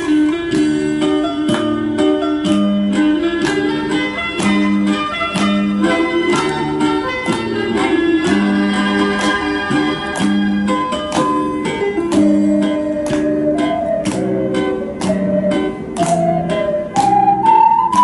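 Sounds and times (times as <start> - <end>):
instrumental accompaniment with beat: 0.0 - 18.0
ocarina ensemble playing: 0.0 - 18.0.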